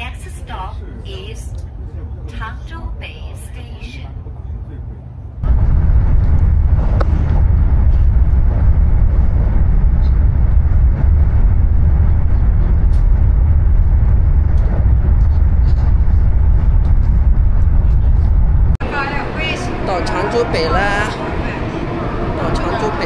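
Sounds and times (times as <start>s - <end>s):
high-speed train rumbling: 0.0s - 23.0s.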